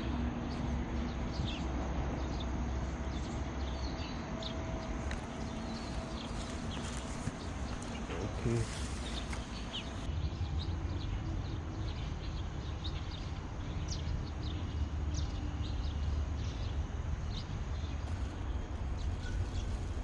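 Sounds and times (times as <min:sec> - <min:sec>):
steady low rumble: 0:00.0 - 0:20.0
small birds chirping: 0:00.5 - 0:20.0.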